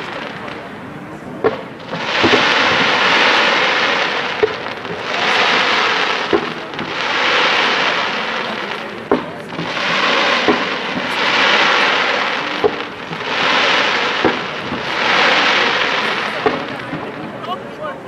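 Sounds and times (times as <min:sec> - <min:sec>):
fireworks hissing rush: 0:00.0 - 0:18.0
fireworks popping: 0:00.0 - 0:18.0.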